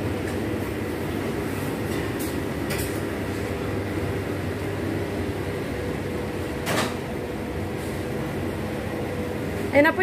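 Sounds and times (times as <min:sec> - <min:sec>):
machinery hum and rumble: 0:00.0 - 0:10.0.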